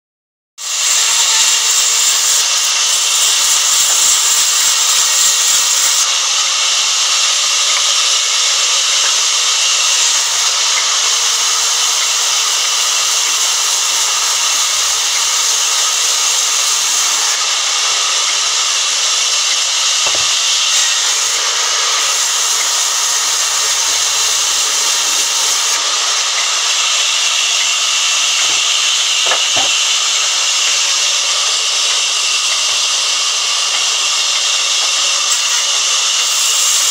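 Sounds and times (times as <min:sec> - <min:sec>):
band saw cutting wood: 0:00.6 - 0:36.9.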